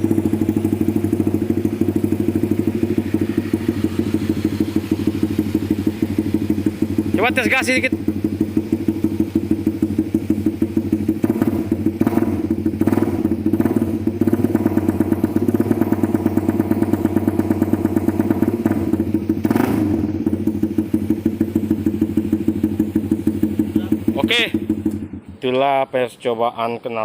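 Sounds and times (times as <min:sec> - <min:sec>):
motorcycle throttle blips: 0:00.0 - 0:25.6
motorcycle idling: 0:00.0 - 0:25.8.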